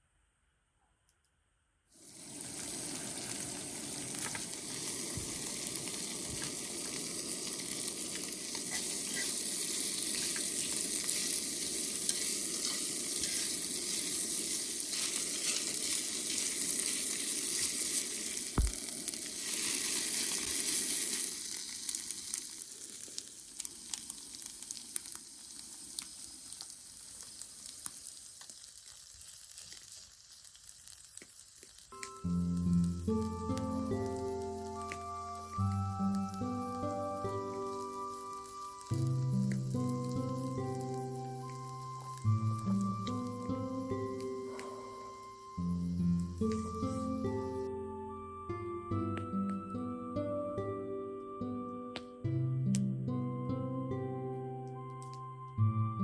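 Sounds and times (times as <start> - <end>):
food sizzling in a pan: 1.9 - 47.8.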